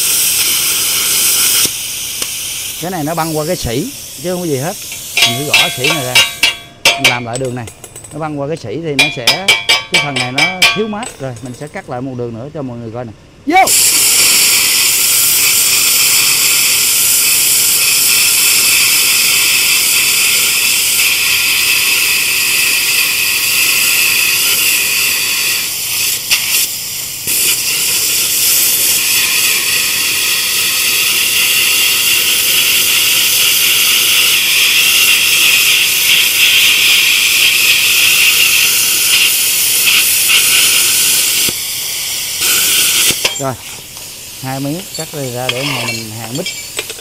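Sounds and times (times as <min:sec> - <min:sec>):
plasma cutter hissing: 0:00.0 - 0:07.6, 0:13.5 - 0:47.0.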